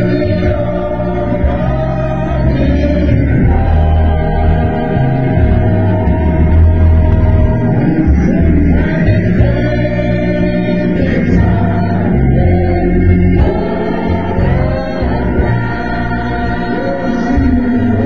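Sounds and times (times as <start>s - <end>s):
gospel choir singing: 0.0s - 18.0s
organ accompaniment: 0.0s - 18.0s.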